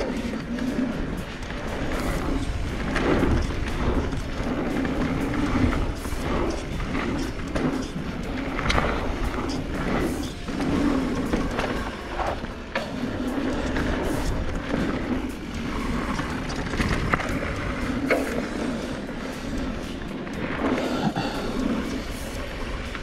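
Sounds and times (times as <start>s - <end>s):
bike clicks and rattles: 0.0s - 23.0s
tyre and wind rush: 0.0s - 23.0s.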